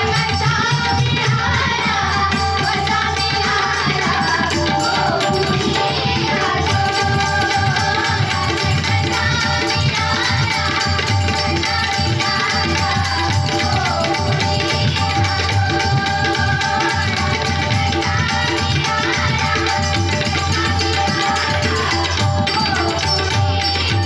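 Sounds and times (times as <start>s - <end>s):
hand drums playing dense rhythm: 0.0s - 24.0s
harmonium tones: 0.0s - 24.0s.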